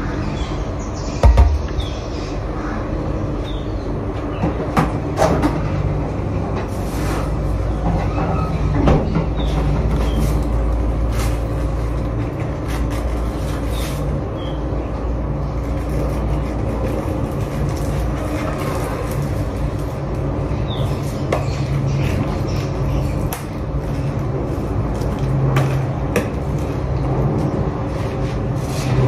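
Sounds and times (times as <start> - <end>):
low mechanical rumble with hum: 0.0 - 29.0.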